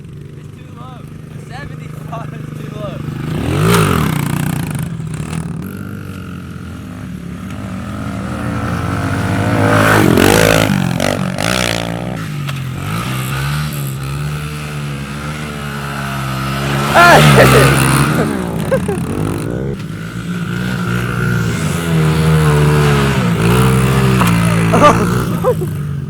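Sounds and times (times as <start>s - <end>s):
vehicle engine revving: 0.6s - 26.0s.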